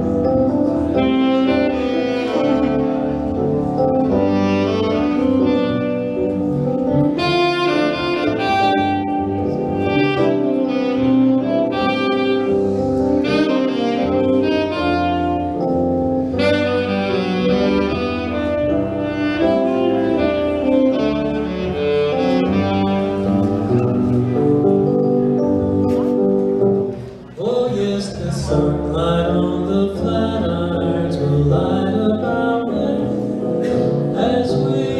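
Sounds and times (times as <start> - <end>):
instrumental music: 0.0 - 34.9.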